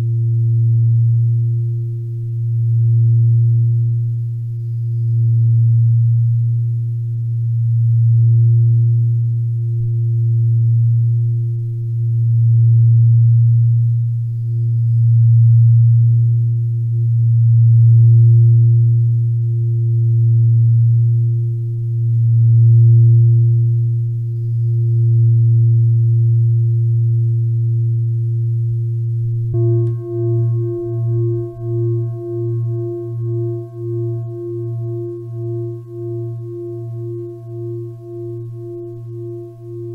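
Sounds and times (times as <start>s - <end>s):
faint higher tone: 0.0s - 39.9s
low relaxation drone: 0.0s - 39.9s.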